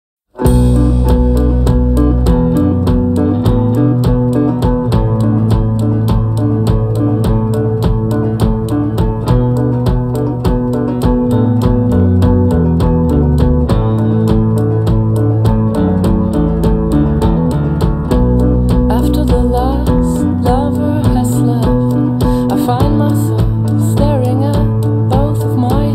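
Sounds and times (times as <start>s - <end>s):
instrumental rock music: 0.3s - 25.9s.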